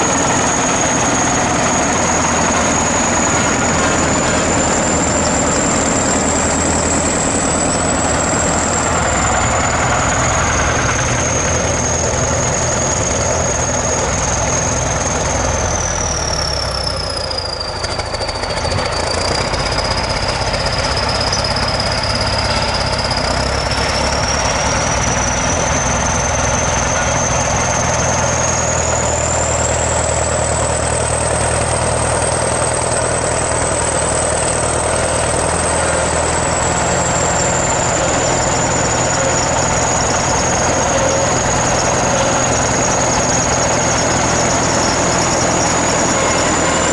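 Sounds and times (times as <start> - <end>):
diesel engine running: 0.0 - 46.9
high whine: 0.0 - 46.9.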